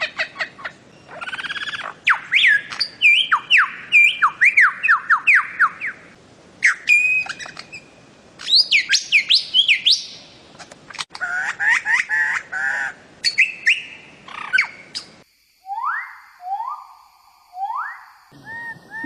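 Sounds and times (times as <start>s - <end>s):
bird calling: 0.0s - 17.0s, 17.6s - 19.0s.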